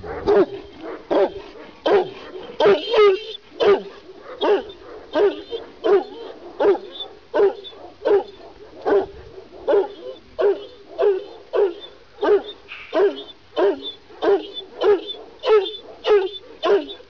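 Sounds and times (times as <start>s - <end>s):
dog barking: 0.0s - 17.0s.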